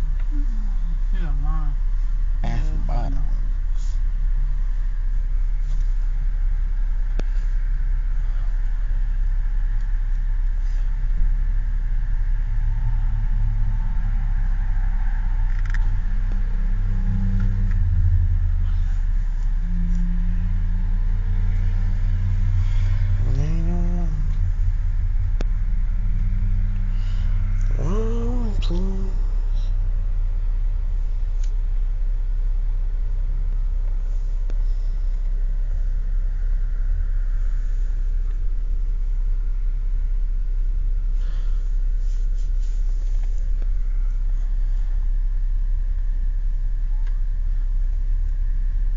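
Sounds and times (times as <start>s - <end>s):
road noise: 0.0s - 45.6s
car engine rumble inside cabin: 0.0s - 48.9s.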